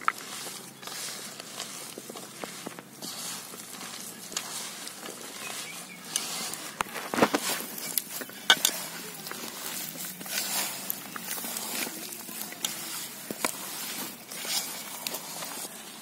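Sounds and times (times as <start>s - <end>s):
hands mixing dough in bowl: 0.0s - 16.0s.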